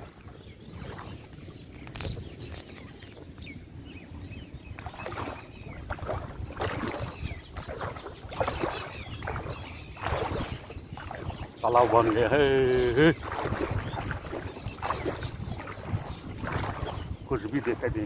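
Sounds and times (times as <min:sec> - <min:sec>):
rushing floodwater: 0:00.0 - 0:18.0
wind buffeting microphone: 0:00.0 - 0:18.0
chirping calls: 0:01.6 - 0:18.0.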